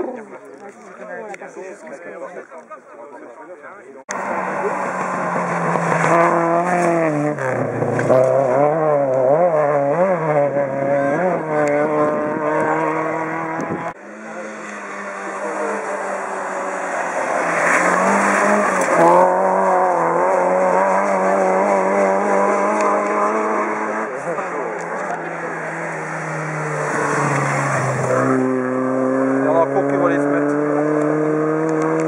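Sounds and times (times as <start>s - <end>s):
rally car engine revving: 4.1s - 32.0s
rally car passing at high revs: 4.1s - 32.0s.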